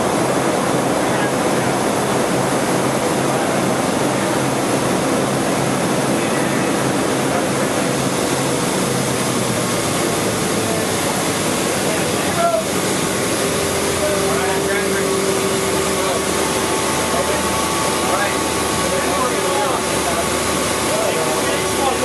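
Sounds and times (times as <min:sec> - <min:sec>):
jet engine and airflow noise: 0:00.0 - 0:22.0.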